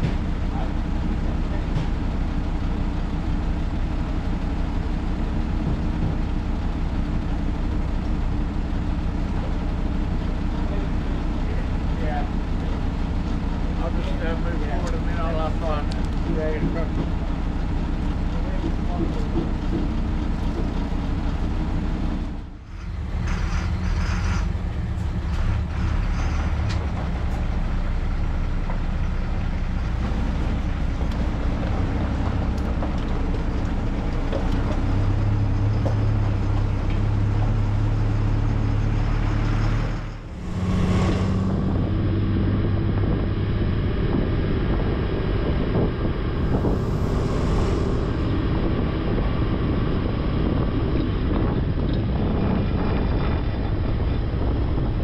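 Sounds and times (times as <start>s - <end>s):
heavy truck engine running: 0.0s - 55.0s.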